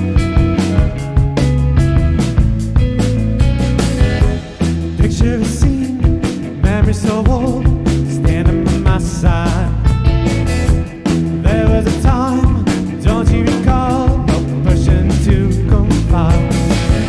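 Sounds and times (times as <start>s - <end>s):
drum beat: 0.0s - 17.0s
rock band playing live: 0.0s - 17.0s.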